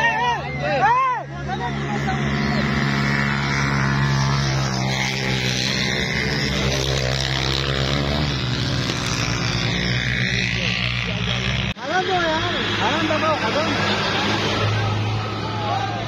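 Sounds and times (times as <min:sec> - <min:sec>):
dirt bike engine racing past: 0:00.0 - 0:16.0.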